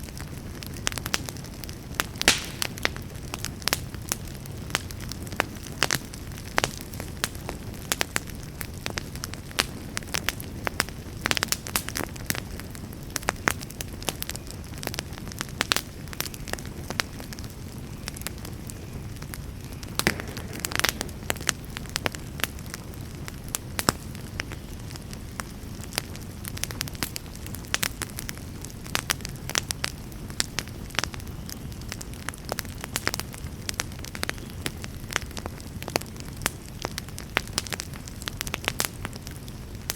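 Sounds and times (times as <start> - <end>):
campfire crackling and popping: 0.0 - 39.9
low rumble of burning: 0.0 - 39.9.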